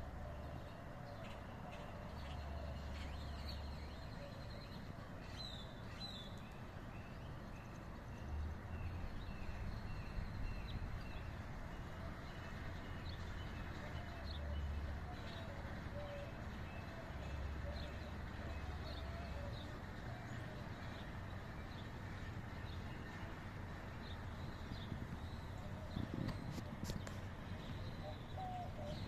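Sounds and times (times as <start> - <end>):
steady outdoor hiss: 0.0 - 29.0.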